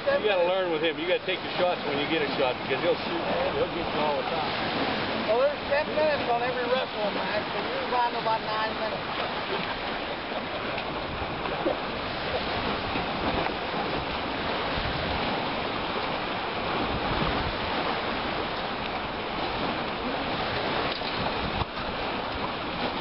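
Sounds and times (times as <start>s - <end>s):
choppy water washing on pier wall: 0.0s - 23.0s
wind: 0.0s - 23.0s.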